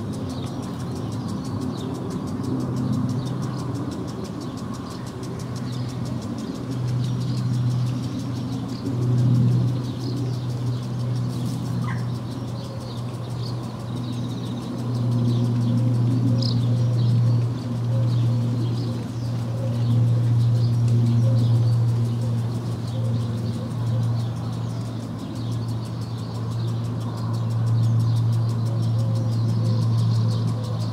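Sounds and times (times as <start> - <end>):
distant engine drone: 0.0 - 30.9
garden sprinkler ticking: 0.0 - 30.9
swallows twittering: 0.0 - 30.9.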